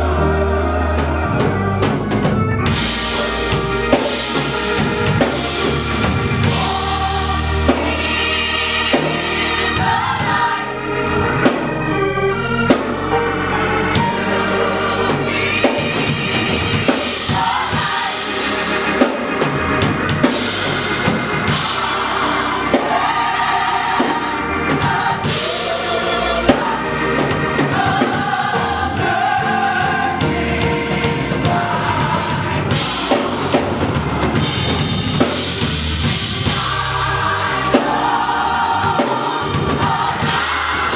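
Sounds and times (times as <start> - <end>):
drum kit beat: 0.0 - 12.0, 12.6 - 40.9
gospel choir singing: 0.0 - 40.9.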